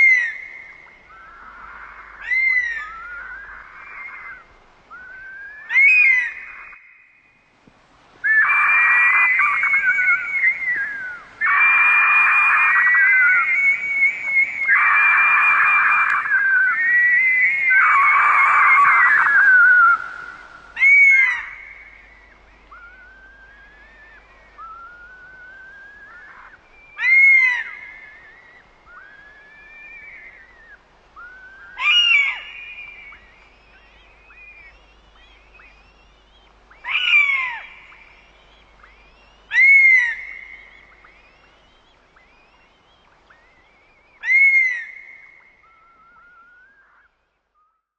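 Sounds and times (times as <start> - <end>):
sharp down-slurred bird cries: 0.0 - 7.5, 8.2 - 47.9
bird of prey screaming: 1.1 - 6.8, 8.2 - 38.2, 38.8 - 42.6, 43.3 - 47.1.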